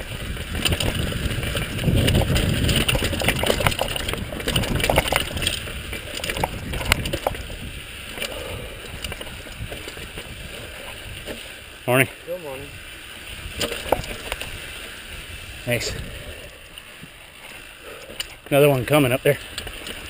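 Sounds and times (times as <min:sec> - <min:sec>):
bike parts rattling: 0:00.0 - 0:20.0
bike tyres crunching over rock: 0:00.0 - 0:20.0.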